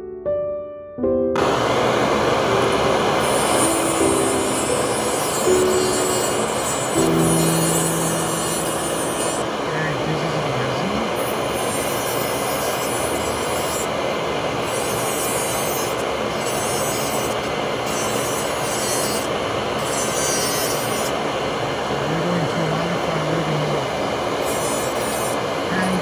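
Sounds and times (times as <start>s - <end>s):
rotary handpiece grinding whir: 2.7s - 21.9s, 22.6s - 26.0s.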